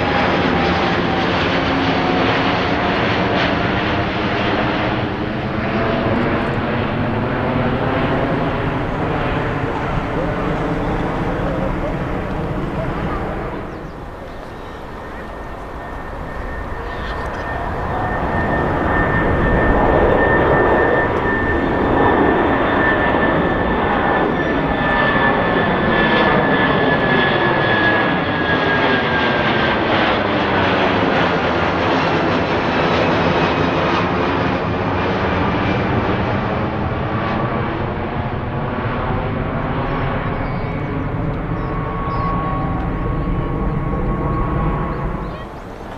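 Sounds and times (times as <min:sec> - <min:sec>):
high jet engine whine: 0:00.0 - 0:45.9
jet airliner passing: 0:00.0 - 0:45.9.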